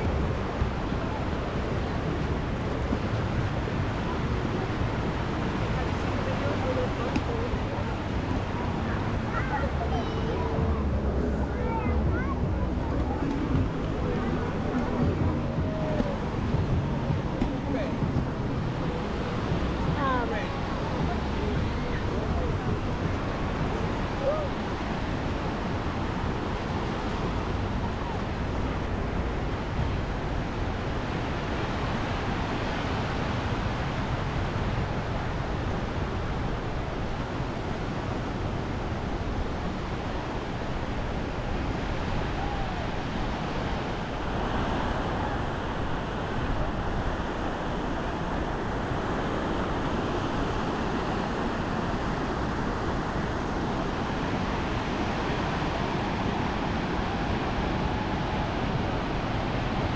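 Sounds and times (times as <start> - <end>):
wind rumbling on microphone: 0.0 - 59.9.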